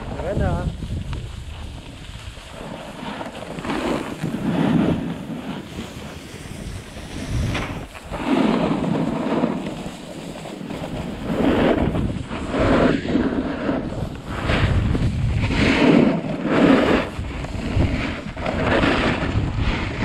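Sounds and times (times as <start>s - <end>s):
skis scraping on packed snow: 0.0s - 20.0s
wind rushing over microphone: 0.0s - 20.0s.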